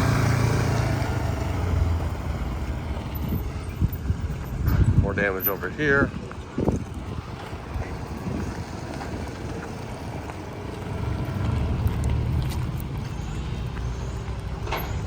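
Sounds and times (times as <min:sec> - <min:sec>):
vehicle passing with low rumble: 0:00.0 - 0:15.0
wind noise on microphone: 0:01.7 - 0:15.0.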